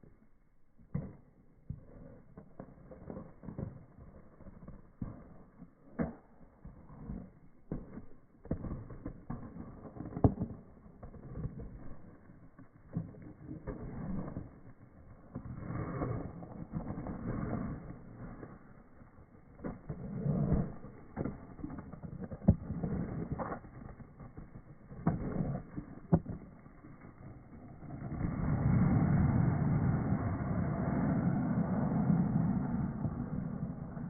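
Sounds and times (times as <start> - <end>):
skate scraping: 0.8 - 34.0.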